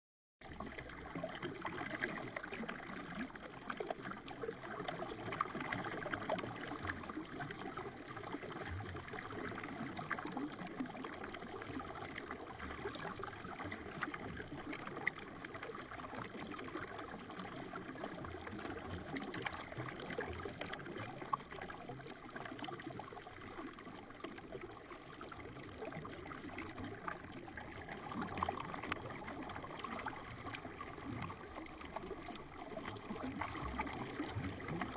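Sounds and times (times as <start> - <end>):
slowed river water flowing: 0.4 - 34.9.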